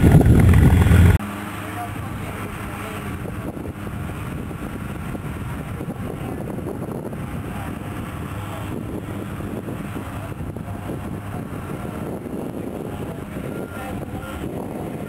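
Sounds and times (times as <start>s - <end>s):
wind noise on microphone: 0.0s - 1.2s, 2.0s - 15.0s
engine drone: 0.0s - 14.4s.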